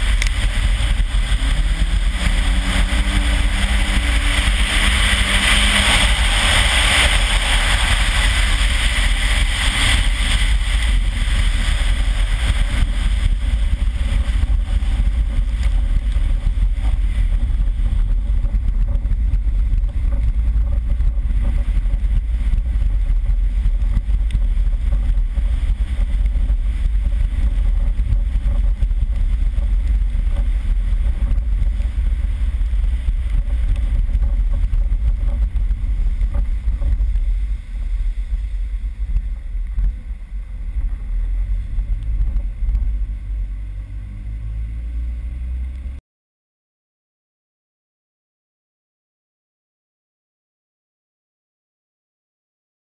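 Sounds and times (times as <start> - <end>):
wind rumble on microphone: 0.0 - 46.0.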